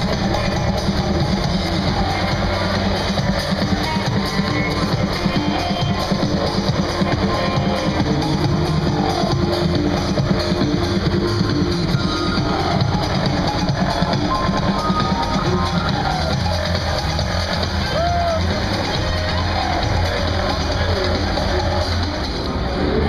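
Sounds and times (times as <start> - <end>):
guitar and drums music over loudspeakers: 0.0 - 23.0.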